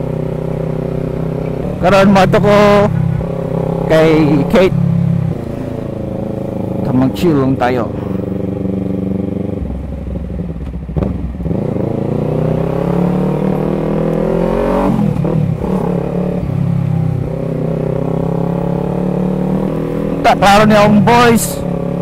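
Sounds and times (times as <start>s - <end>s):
motorcycle engine pulling at low speed: 0.0s - 22.0s.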